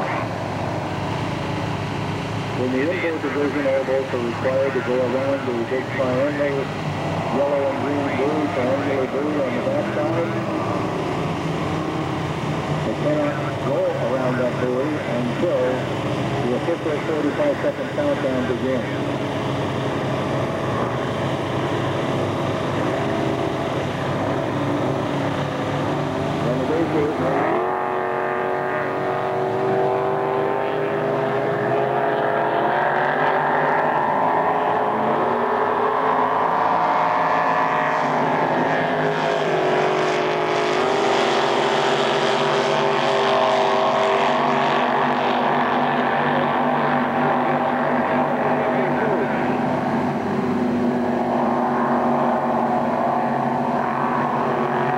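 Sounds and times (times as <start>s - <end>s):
distant powerboat engines droning: 0.0s - 33.6s, 36.2s - 54.9s.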